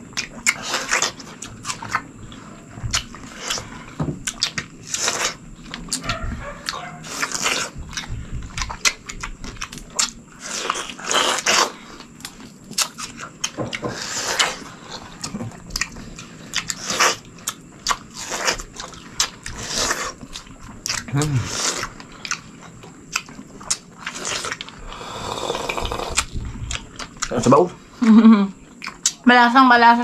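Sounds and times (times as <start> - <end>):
people chewing watermelon: 0.0 - 29.8.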